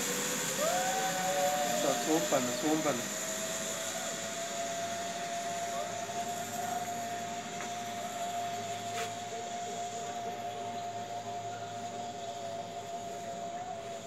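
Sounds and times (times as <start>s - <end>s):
zipline trolley whining on cable: 0.0s - 14.0s.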